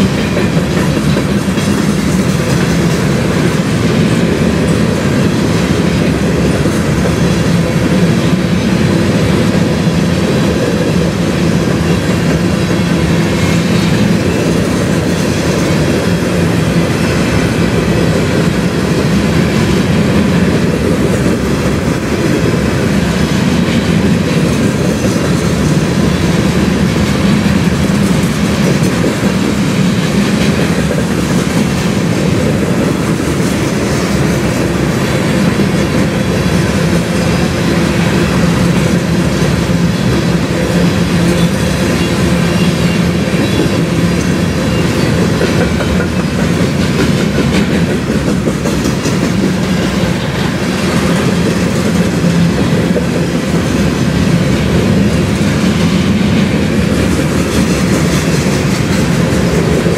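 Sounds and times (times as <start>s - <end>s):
freight train rumbling: 0.0s - 59.9s
wheels clicking over rail joints: 0.0s - 59.9s.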